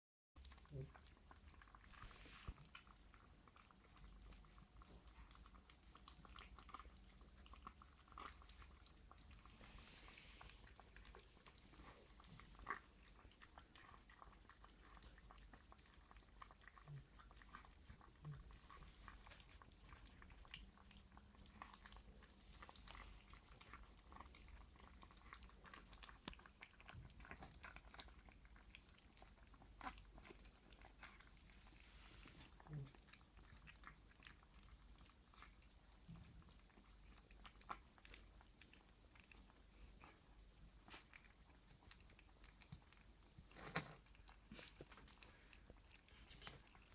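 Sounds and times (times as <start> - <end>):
puppies chewing wet food: 0.4 - 46.9.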